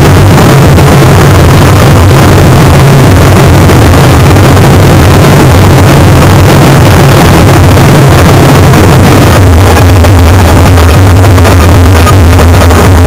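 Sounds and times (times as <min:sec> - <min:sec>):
fountain fireworks roaring: 0:00.0 - 0:13.0.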